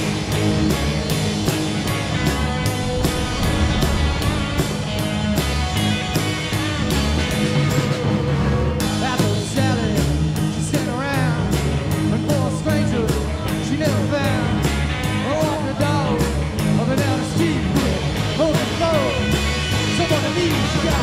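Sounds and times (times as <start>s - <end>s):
rock song with drums and singing: 0.0s - 21.0s.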